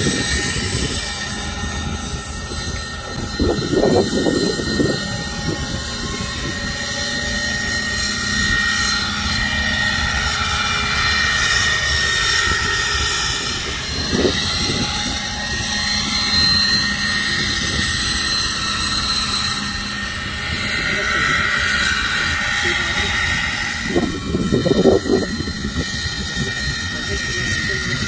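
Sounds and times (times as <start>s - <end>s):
helicopter rotor noise: 0.0s - 28.0s
high motor whine: 0.0s - 28.0s.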